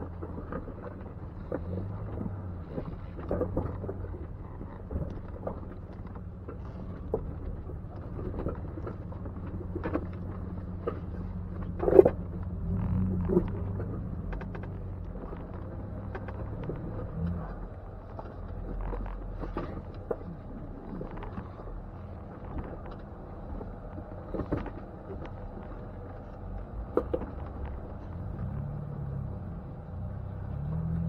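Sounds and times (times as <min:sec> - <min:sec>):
car engine running low: 0:00.0 - 0:31.0.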